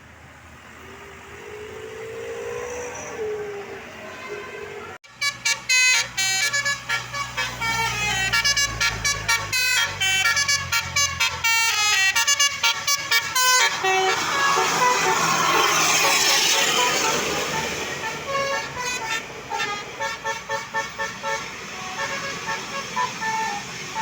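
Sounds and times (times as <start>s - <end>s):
multi-tone bus horn melody: 4.0s - 24.0s.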